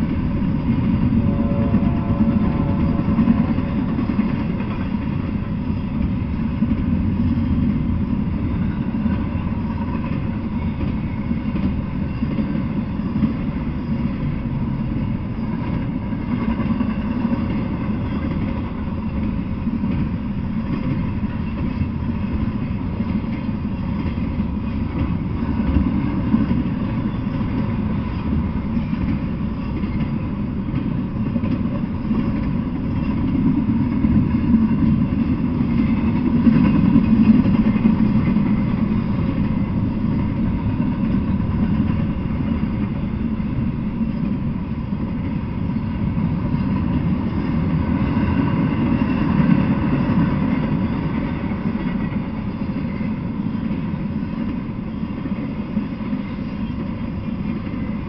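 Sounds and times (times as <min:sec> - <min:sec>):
steel wheels on rail: 0:00.0 - 0:58.0.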